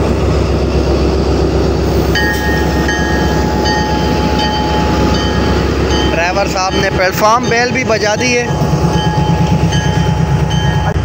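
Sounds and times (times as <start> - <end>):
locomotive engine rumble: 0.0 - 11.0
locomotive bell ringing: 1.4 - 11.0
steady high tone: 1.8 - 11.0.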